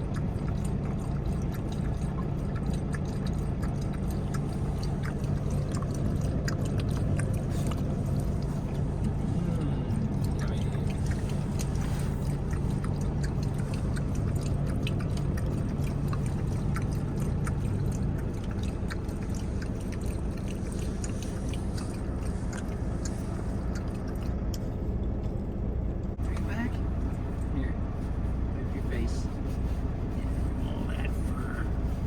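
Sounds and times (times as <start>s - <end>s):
dog lapping water: 0.0s - 32.0s
steady low hum: 0.0s - 32.0s.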